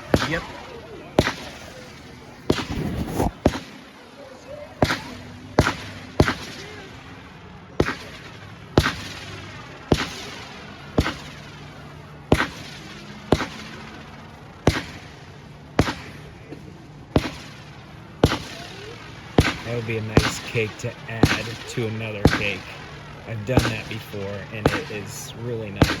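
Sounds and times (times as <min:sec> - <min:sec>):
firework shots banging: 0:00.0 - 0:03.9, 0:04.8 - 0:07.2, 0:07.8 - 0:26.0.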